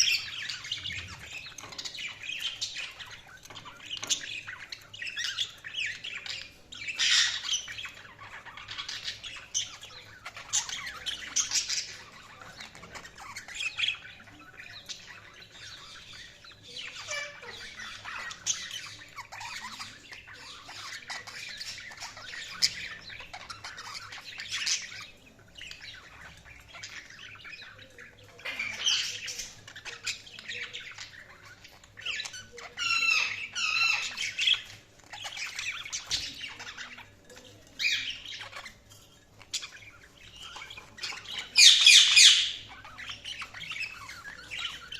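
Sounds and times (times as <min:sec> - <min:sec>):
budgerigars chirping and warbling: 0:00.0 - 0:44.9.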